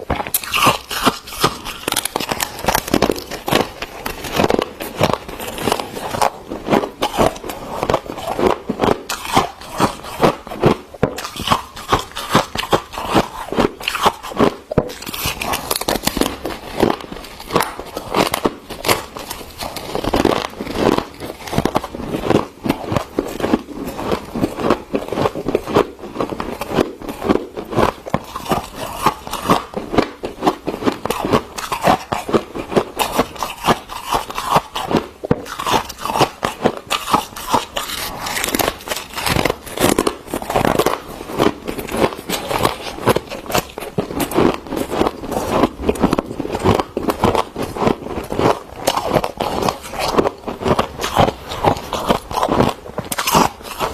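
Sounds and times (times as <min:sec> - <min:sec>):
freezer frost crunching: 0:00.0 - 0:53.9.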